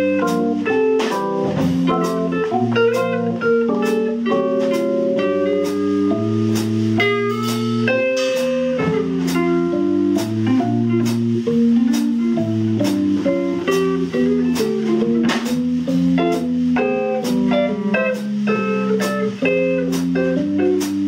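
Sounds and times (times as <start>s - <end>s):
drum kit beat: 0.0s - 21.0s
electric guitar: 0.0s - 21.0s
electric keyboard: 0.0s - 21.0s.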